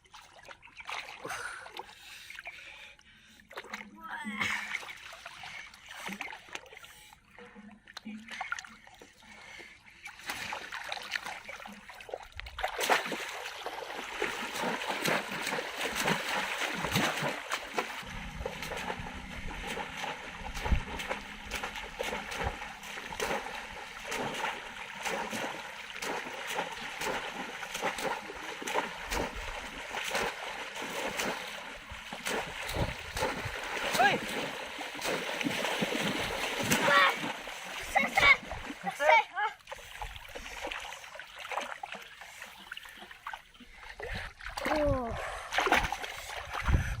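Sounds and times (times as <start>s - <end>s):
river water splashing: 8.0s - 46.8s.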